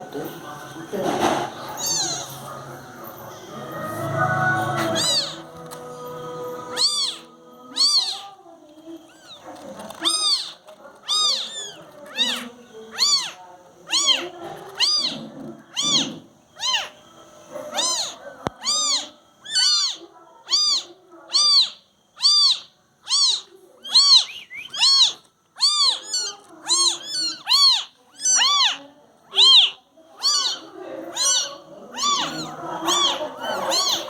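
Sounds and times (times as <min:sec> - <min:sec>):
kittens mewing: 0:01.1 - 0:05.9, 0:06.6 - 0:08.4, 0:09.0 - 0:34.0.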